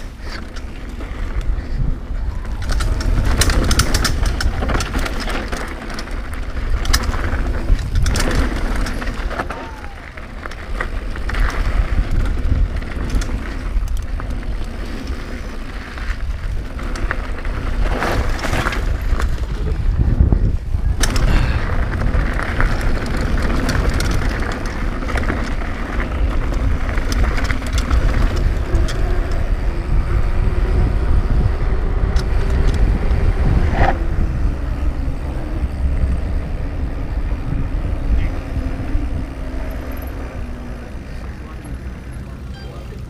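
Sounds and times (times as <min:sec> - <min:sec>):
wind rumble on microphone: 0:00.0 - 0:42.1
bike tyres rolling over dirt: 0:00.0 - 0:42.5
bike frame rattling and clicking: 0:00.0 - 0:43.0.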